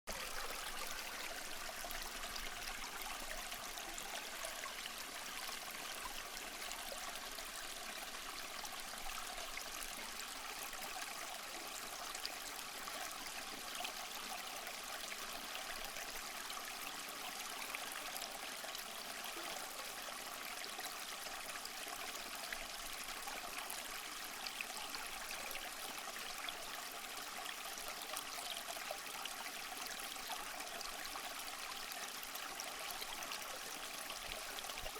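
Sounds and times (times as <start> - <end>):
stream flowing: 0.1 - 34.9.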